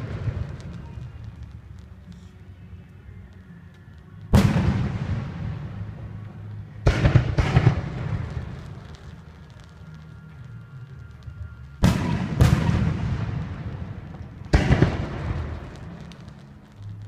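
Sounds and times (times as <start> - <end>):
fireworks bursting with bangs: 0.0 - 17.0
rumble after bangs: 3.2 - 17.0.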